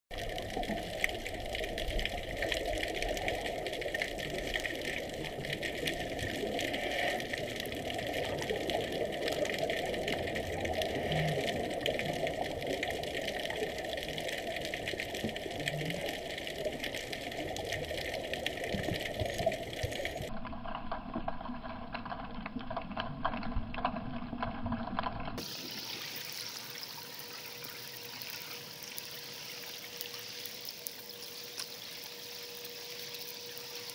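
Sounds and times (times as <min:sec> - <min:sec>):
faint crackling clicks: 0:00.1 - 0:25.4, 0:27.6 - 0:33.9
muffled underwater hiss: 0:00.4 - 0:20.3, 0:25.4 - 0:33.9.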